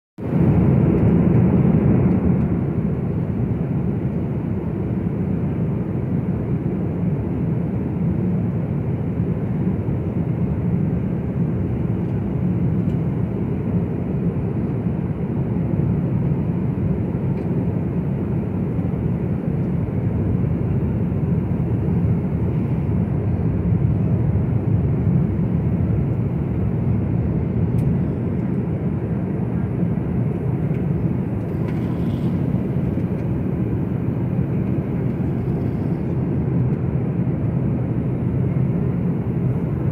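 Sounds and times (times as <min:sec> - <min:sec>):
airliner cabin engine rush: 0:00.2 - 0:39.9.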